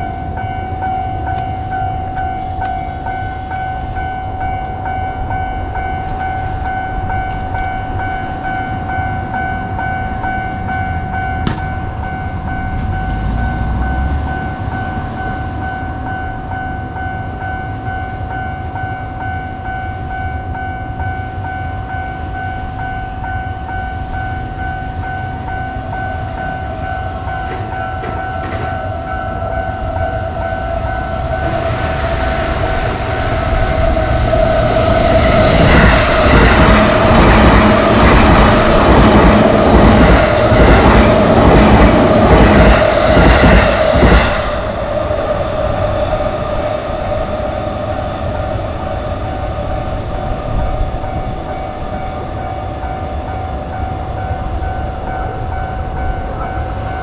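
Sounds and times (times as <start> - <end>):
train wheels clattering on rails: 0.0 - 19.4, 20.1 - 57.0
railroad crossing bell ringing: 0.0 - 57.0.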